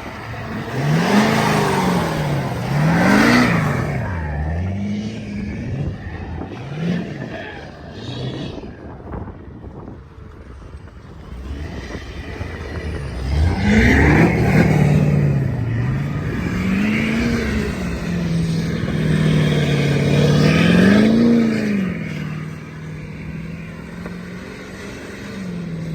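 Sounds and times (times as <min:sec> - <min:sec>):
off-road vehicle engine revving: 0:00.0 - 0:25.9.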